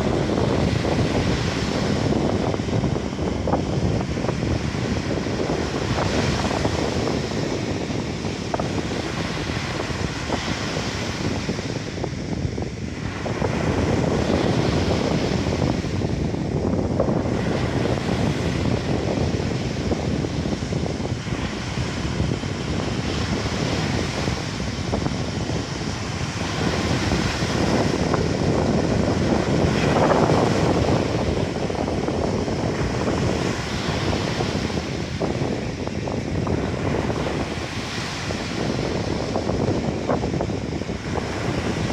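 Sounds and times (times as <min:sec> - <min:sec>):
waves washing onto beach: 0:00.0 - 0:41.9
wind buffeting microphone: 0:00.0 - 0:41.9.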